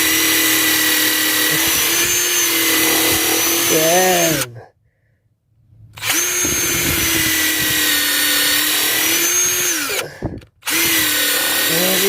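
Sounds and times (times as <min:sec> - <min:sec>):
impact driver whining and rattling: 0:00.0 - 0:04.5, 0:06.0 - 0:12.0.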